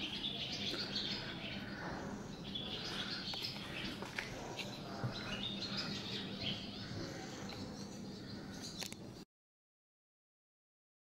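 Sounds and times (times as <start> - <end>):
faint steady hum: 0.0 - 9.2
small birds chirping: 0.0 - 9.2.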